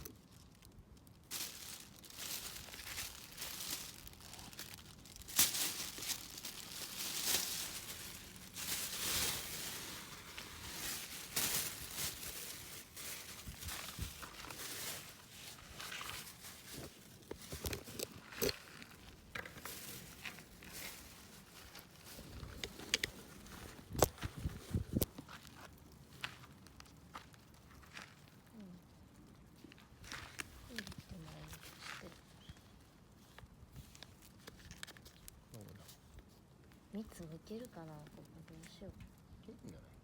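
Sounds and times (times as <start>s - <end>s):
packaging crinkling and rustling: 0.0s - 39.3s.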